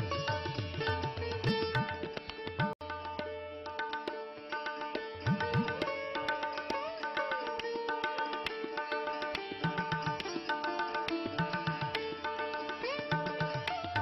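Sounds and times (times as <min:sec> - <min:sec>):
tabla strokes: 0:00.0 - 0:14.0.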